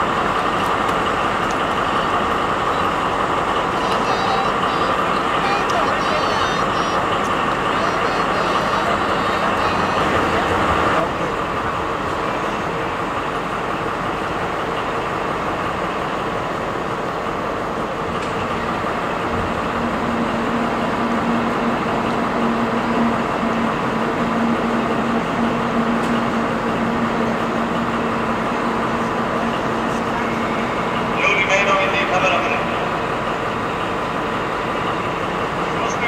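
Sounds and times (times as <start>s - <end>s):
diesel locomotive idling: 0.0s - 36.0s.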